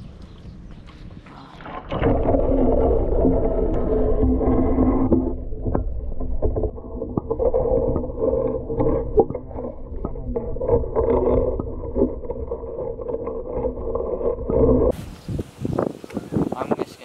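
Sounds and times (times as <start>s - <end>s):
muffled underwater rumble: 0.0s - 16.7s.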